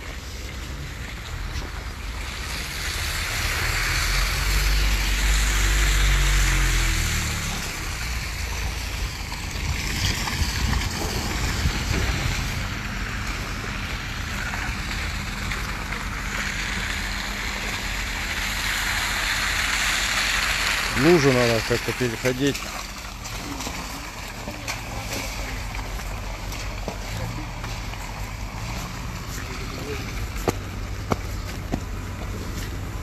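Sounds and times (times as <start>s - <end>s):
passing vehicle engine rumbling: 0.0s - 33.0s.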